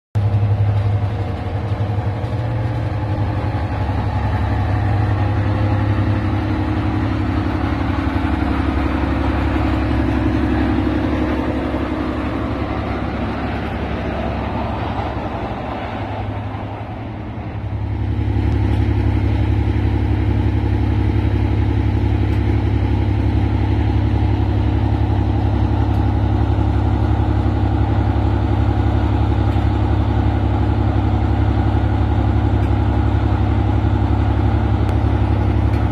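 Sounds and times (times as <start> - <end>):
diesel locomotive engines droning: 0.2 - 35.9
locomotive engines idling: 0.2 - 35.9.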